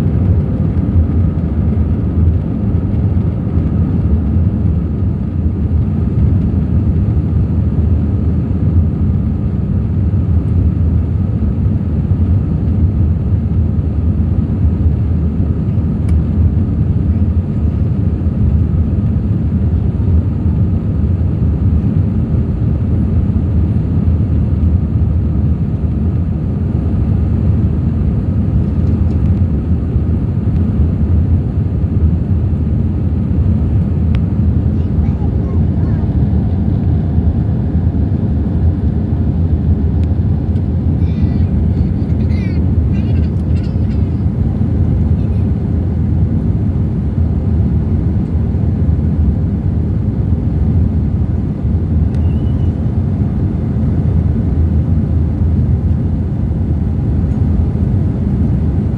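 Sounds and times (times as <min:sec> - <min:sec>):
jet engines rumbling: 0:00.0 - 0:58.9.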